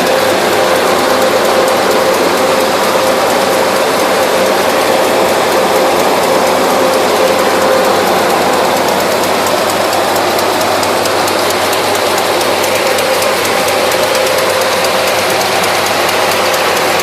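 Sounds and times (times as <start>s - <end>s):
truck running with whine: 0.0s - 17.0s.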